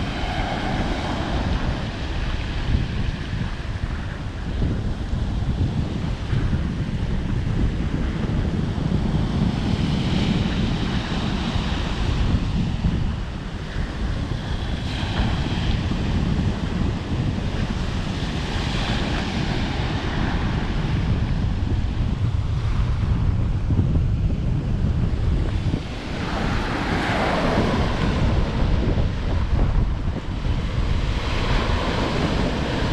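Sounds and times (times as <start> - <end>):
ocean waves breaking: 0.0 - 32.9
wind buffeting microphone: 0.0 - 32.9.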